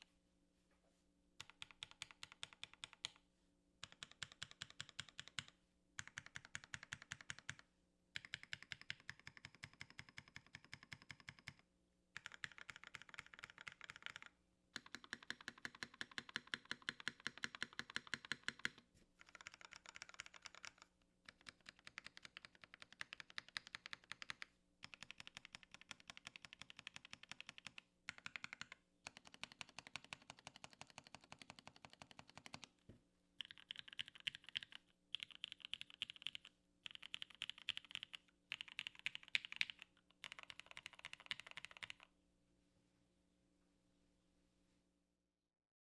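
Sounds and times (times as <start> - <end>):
fast typing on mechanical keyboard: 1.4 - 3.2, 3.8 - 7.6, 8.2 - 11.6, 12.2 - 32.7, 33.4 - 42.1.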